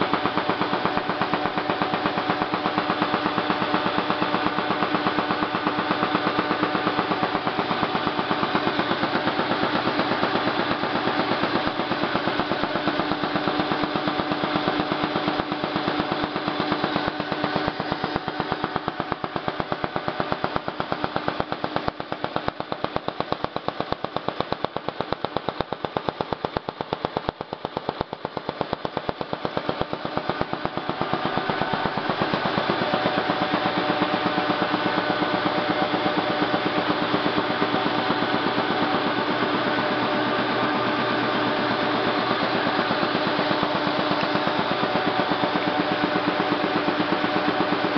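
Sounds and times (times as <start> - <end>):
steady machine hum: 0.0 - 47.9.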